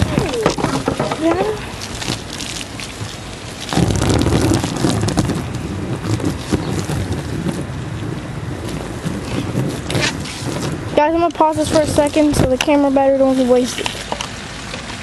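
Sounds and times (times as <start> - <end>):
hose water splashing on mat: 0.0 - 15.0.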